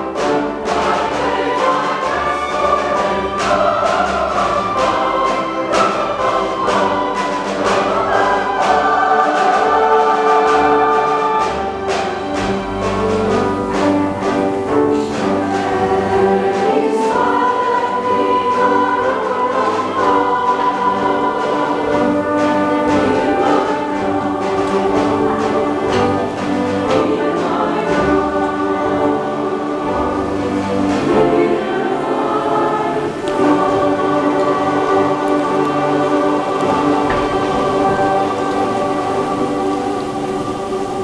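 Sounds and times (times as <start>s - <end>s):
mixed choir singing: 0.0s - 41.0s
small orchestra playing: 0.0s - 41.0s.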